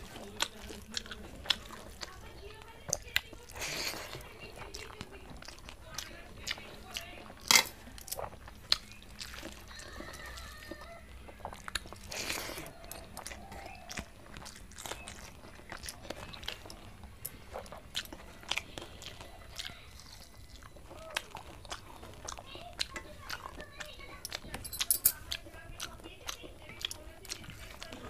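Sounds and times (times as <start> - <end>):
chewing: 0.0 - 28.0.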